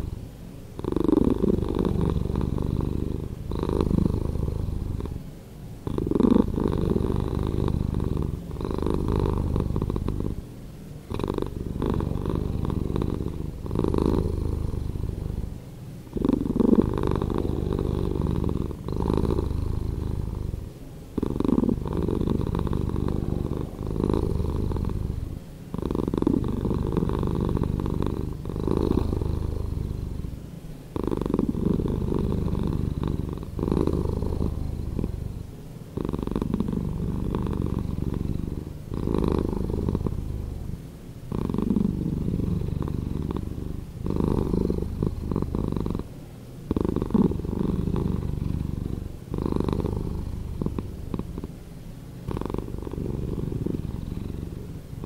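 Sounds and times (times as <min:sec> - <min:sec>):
cat purring slowed down: 0:00.0 - 0:10.4, 0:11.0 - 0:55.0.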